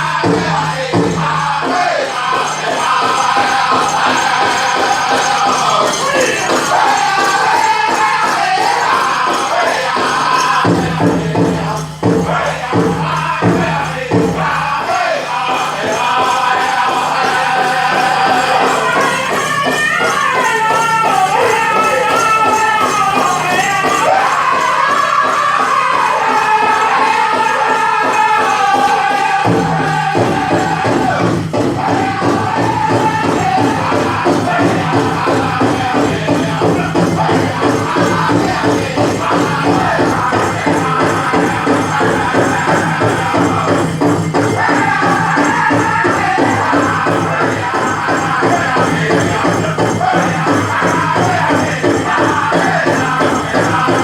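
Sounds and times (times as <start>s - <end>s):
bells jingling: 0.0s - 54.0s
big drum beating: 0.0s - 54.0s
group singing in unison: 0.0s - 54.0s.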